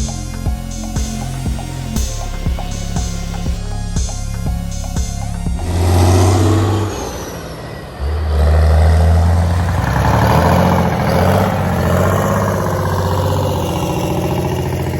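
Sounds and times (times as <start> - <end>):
diesel truck engine revving: 0.7 - 14.9.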